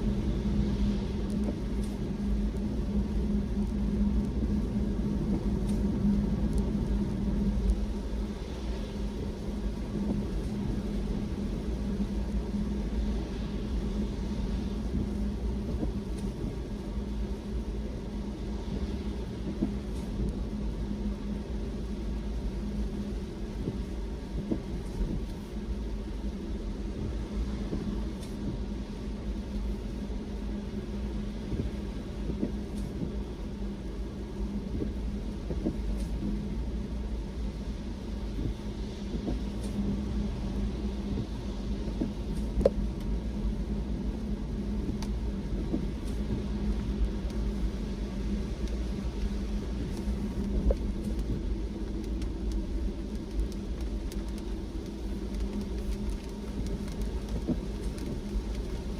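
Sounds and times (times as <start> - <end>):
road and engine rumble: 0.0 - 58.9
steady hum: 0.0 - 58.9.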